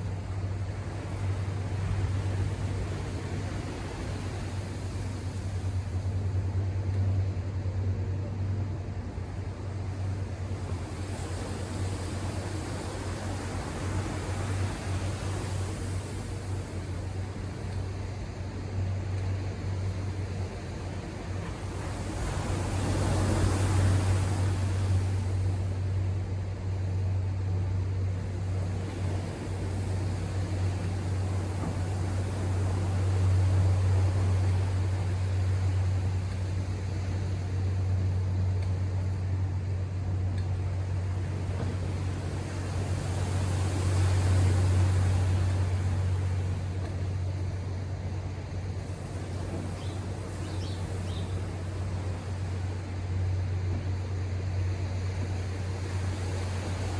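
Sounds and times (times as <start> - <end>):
ocean surf washing: 0.0 - 56.9
waves breaking: 0.0 - 56.9.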